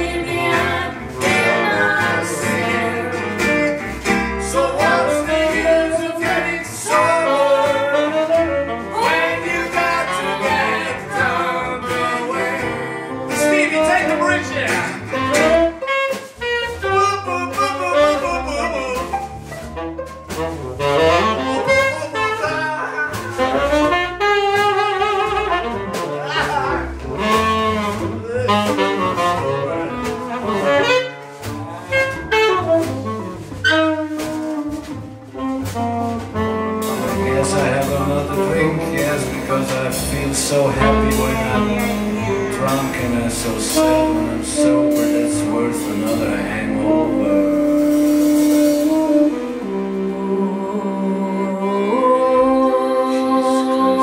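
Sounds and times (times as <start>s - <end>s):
drums and cymbals: 0.0s - 49.9s
double bass: 0.0s - 54.0s
saxophone melody: 0.0s - 54.0s.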